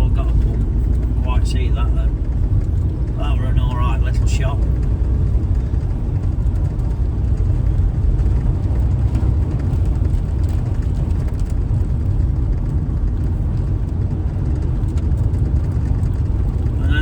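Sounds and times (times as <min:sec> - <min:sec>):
road and engine rumble in vehicle: 0:00.0 - 0:17.0.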